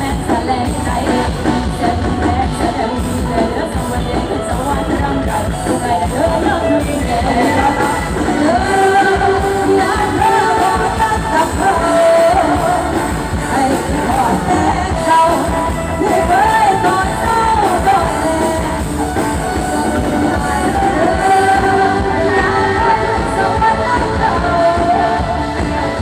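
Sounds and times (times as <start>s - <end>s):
loud live band music: 0.0s - 26.0s
woman singing into a microphone: 0.0s - 26.0s.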